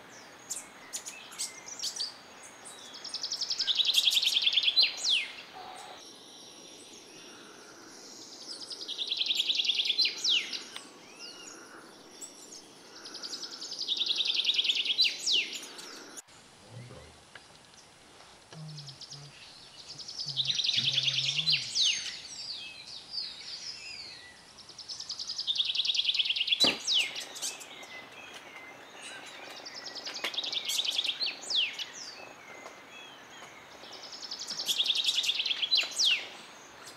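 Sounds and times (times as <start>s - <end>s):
songbird singing trills: 0.0s - 36.9s.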